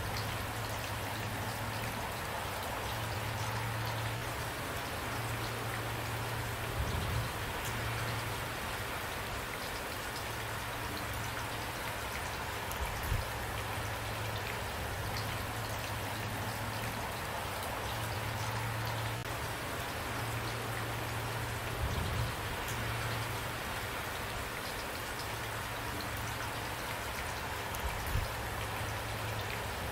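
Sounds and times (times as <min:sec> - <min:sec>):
rain falling: 0:00.0 - 0:29.9.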